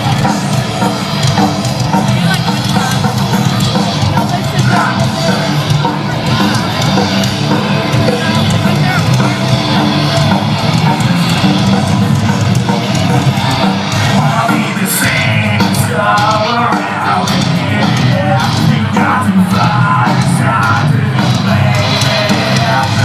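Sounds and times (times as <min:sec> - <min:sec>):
live heavy rock band: 0:00.0 - 0:23.0
person singing: 0:01.9 - 0:23.0.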